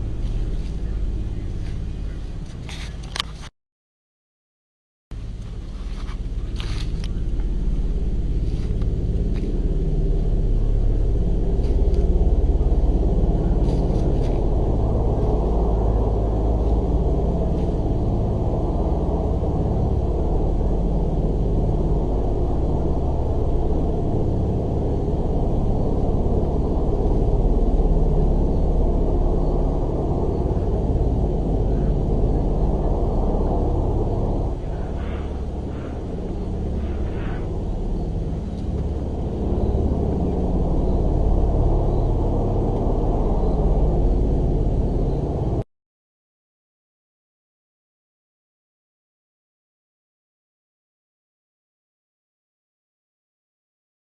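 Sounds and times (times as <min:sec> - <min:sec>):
low rumbling drone: 0:00.0 - 0:03.5, 0:05.1 - 0:45.7.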